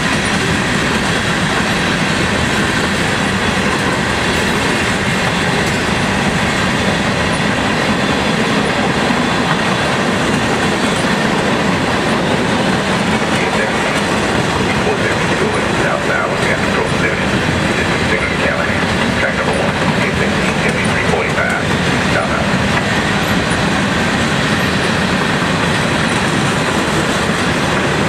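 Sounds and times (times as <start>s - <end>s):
steel wheels running on rails: 0.0s - 28.0s.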